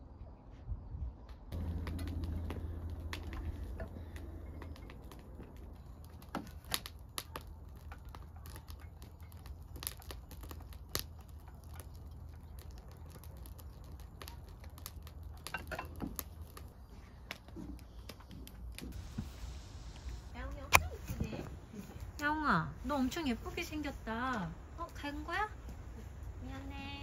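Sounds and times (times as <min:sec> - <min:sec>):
low steady rumble: 0:00.0 - 0:16.9, 0:18.7 - 0:27.0.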